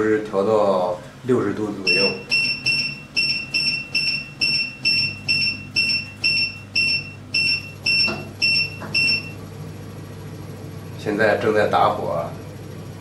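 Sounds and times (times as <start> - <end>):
boiler control panel beeping: 1.8 - 13.0.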